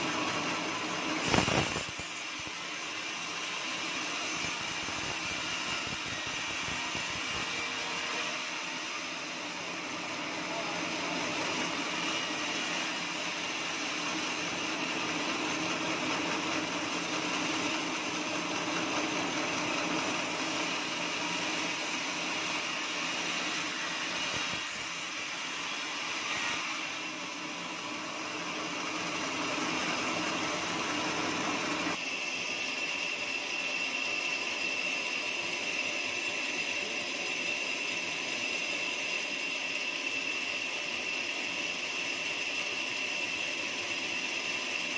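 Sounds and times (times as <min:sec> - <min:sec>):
band saw cutting wood: 0:00.0 - 0:44.9
saw running with high whine: 0:00.0 - 0:44.9.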